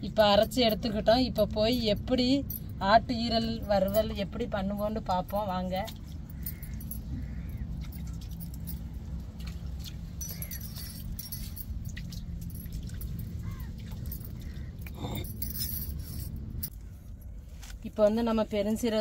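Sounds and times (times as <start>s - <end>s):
bangles jangling: 0.0s - 16.7s
steady low rumble: 0.0s - 19.0s.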